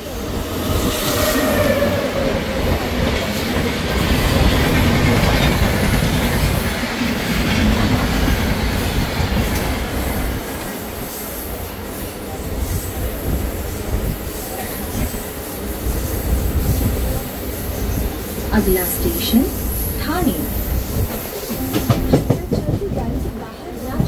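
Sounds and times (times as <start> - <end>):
train running on track: 0.0 - 24.0.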